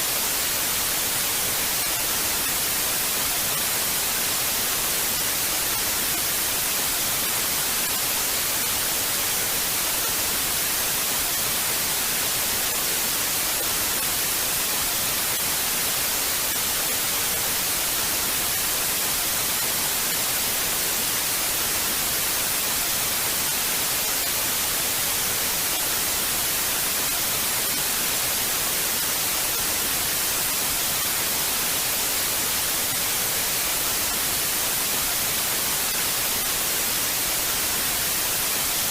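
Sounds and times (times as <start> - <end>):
television static hiss: 0.0 - 38.9.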